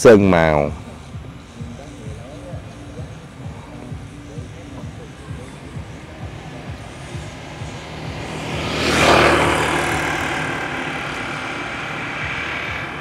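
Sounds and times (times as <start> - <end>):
motor vehicle passing: 0.0 - 13.0
steady low engine hum: 0.0 - 13.0.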